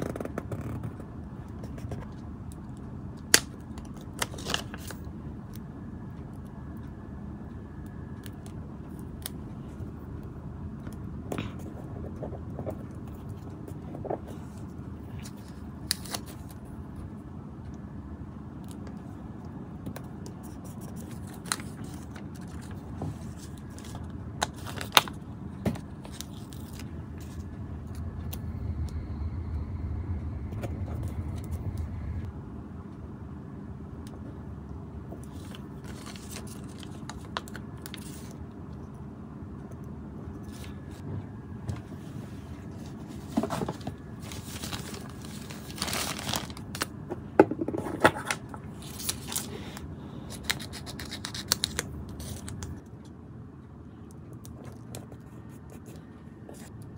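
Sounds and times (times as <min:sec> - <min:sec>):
low background rumble: 0:00.0 - 0:56.9.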